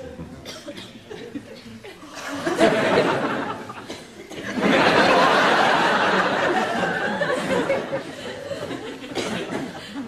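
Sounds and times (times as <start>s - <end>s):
audience laughing: 1.1s - 10.0s.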